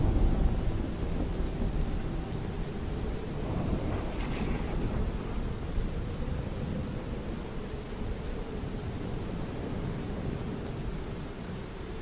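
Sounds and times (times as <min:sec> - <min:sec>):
low rumble of thunder: 0:00.0 - 0:12.0
steady rain: 0:00.0 - 0:12.0.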